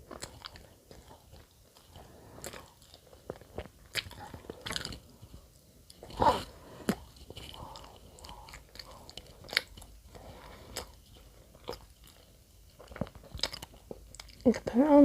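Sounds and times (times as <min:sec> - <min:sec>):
chewing bread: 0:00.0 - 0:14.9.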